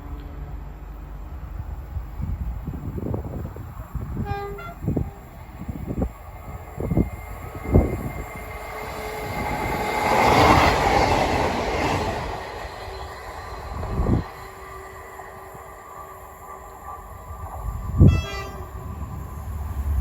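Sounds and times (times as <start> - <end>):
train rail noise: 0.0 - 20.0.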